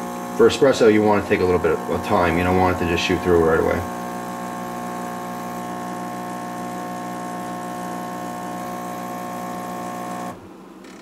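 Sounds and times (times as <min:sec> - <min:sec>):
espresso machine pump humming: 0:00.0 - 0:10.5.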